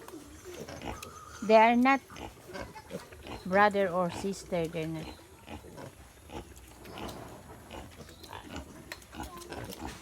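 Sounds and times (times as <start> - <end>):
pigs grunting: 0.3 - 10.0.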